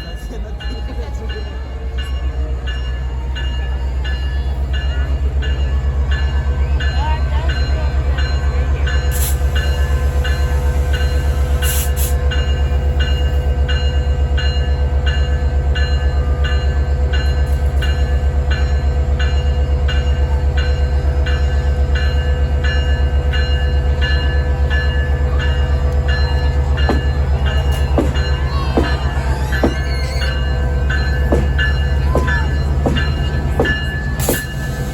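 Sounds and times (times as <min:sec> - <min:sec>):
diesel locomotive rumble: 0:00.0 - 0:34.9.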